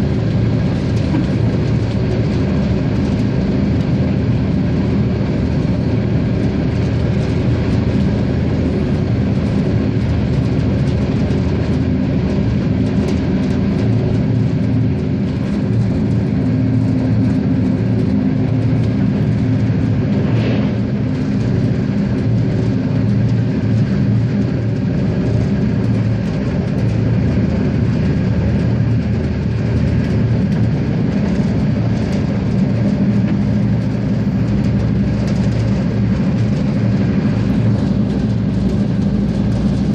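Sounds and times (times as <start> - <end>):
diesel railcar engine drone: 0.0 - 39.9
rail running noise: 0.0 - 39.9.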